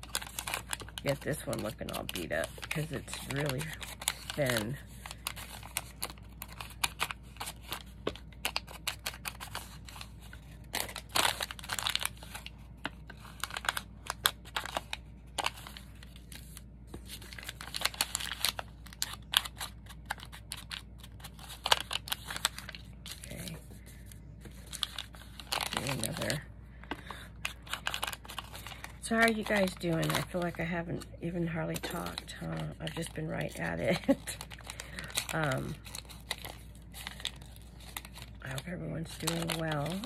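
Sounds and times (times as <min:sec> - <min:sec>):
paper crinkling: 0:00.0 - 0:40.0.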